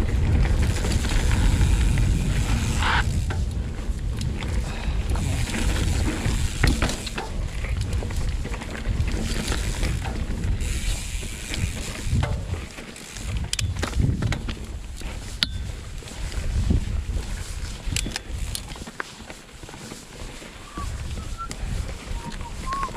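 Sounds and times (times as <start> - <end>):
wind buffeting microphone: 0.0 - 18.8, 20.6 - 22.9
bike clicking and rattling: 0.0 - 22.9.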